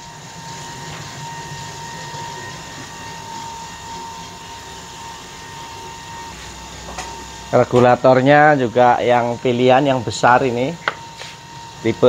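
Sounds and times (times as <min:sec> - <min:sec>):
popcorn machine hissing: 0:00.0 - 0:12.0
thin high whine: 0:00.0 - 0:12.0.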